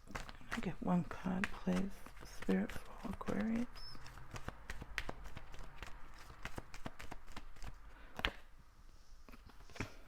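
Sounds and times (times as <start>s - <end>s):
cards being shuffled: 0.0s - 8.4s.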